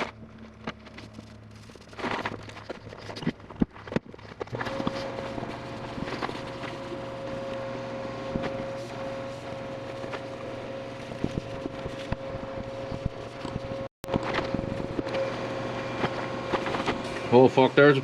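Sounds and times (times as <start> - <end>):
handling noise: 0.0 - 17.3
steady hum: 0.0 - 18.0.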